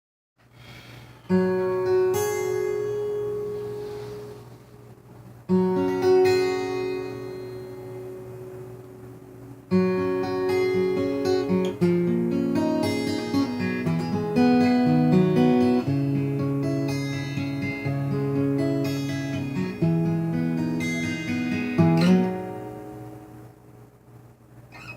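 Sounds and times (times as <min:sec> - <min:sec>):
acoustic guitar playing: 0:01.2 - 0:24.0, 0:24.7 - 0:24.9.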